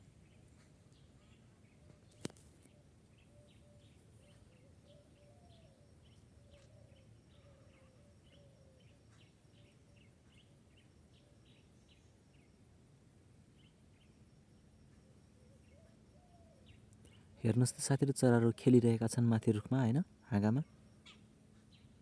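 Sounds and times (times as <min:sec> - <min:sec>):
faint birdsong high chirps: 0:00.0 - 0:22.0.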